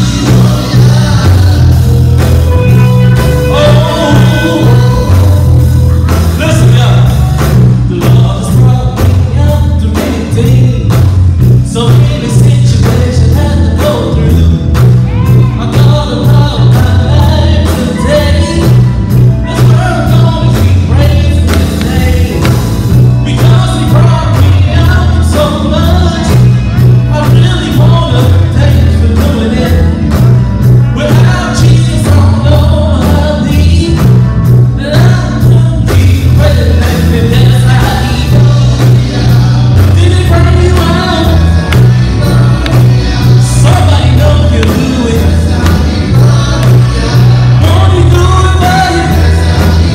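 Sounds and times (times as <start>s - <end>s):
drum kit: 0.0s - 49.9s
electric guitars: 0.0s - 49.9s
heavy steady bass beat: 0.0s - 49.9s
keyboard: 0.0s - 49.9s
man singing through microphone: 0.0s - 49.9s.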